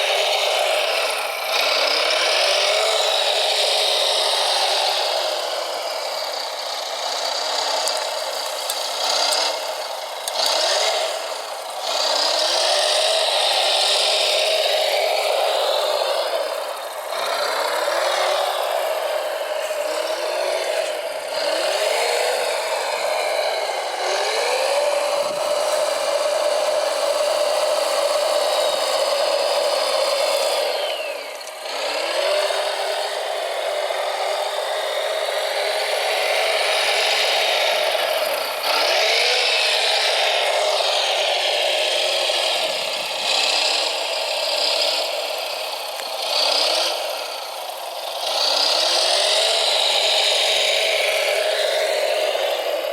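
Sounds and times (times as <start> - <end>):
small electric motors whining: 0.0 - 52.9.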